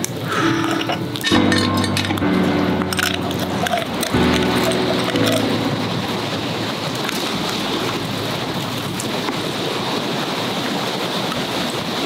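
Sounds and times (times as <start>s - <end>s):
wood fire crackling: 0.0s - 10.4s.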